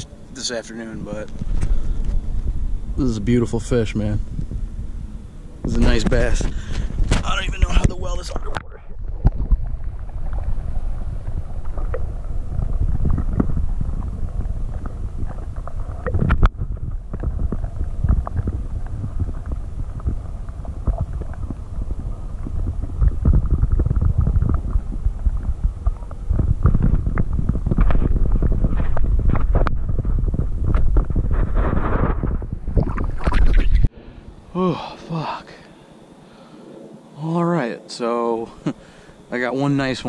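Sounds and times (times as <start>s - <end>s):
muffled underwater rumbling and gurgling: 0.0s - 35.2s.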